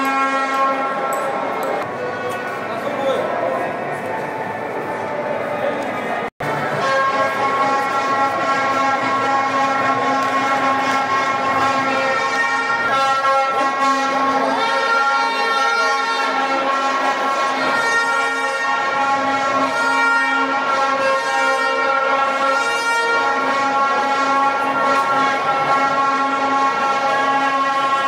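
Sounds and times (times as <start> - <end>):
vuvuzelas droning: 0.0 - 2.1, 6.4 - 28.0
crowd noise: 0.0 - 28.0.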